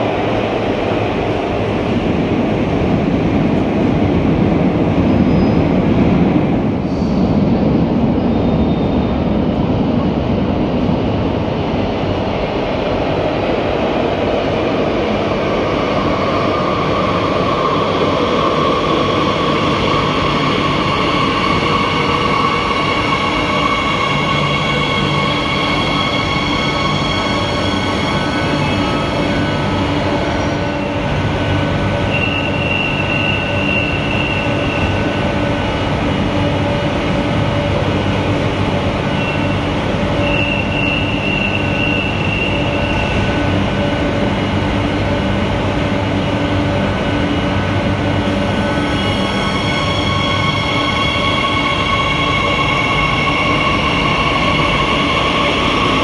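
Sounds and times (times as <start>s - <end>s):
electric whine of train: 0.0s - 56.0s
train wheels rumbling on rail: 0.0s - 56.0s.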